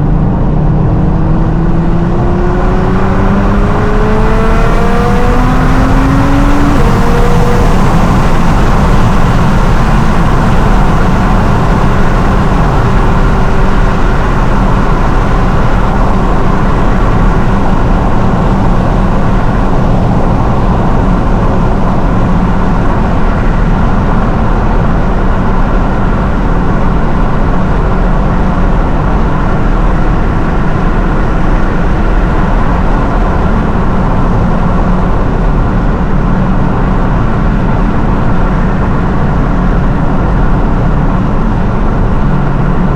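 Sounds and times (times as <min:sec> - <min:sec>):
car engine running steadily: 0:00.0 - 0:42.9
road drone: 0:00.0 - 0:42.9.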